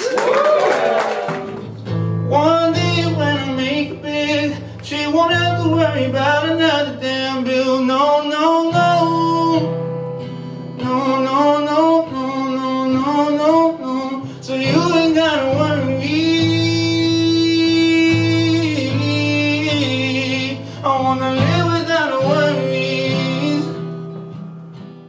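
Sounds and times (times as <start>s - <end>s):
guitar: 0.0s - 25.0s
person singing: 2.3s - 9.8s, 10.8s - 24.0s.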